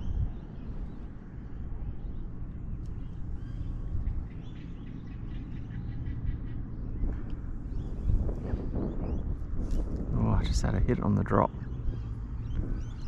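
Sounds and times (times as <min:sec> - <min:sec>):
steady low rumble: 0:00.0 - 0:13.0
wild birds chirping: 0:00.0 - 0:13.0.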